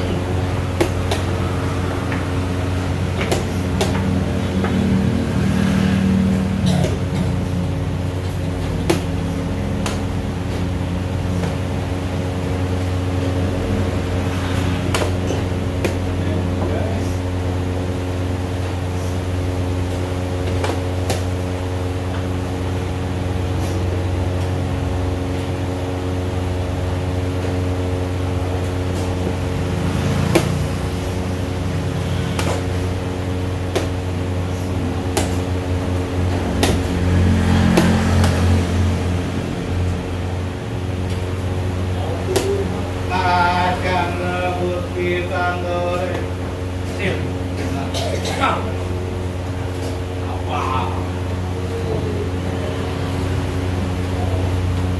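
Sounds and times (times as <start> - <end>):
low mechanical hum: 0.0 - 54.9.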